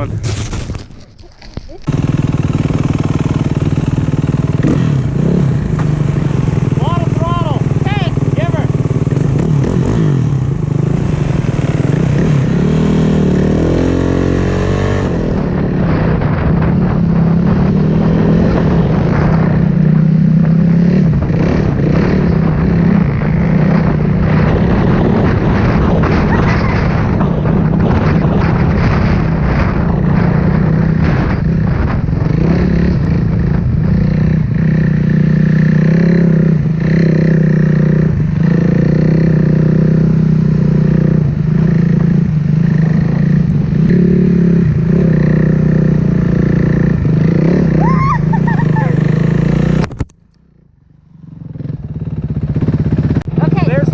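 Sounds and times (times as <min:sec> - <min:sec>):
dirt bike engine revving: 0:01.8 - 0:49.9.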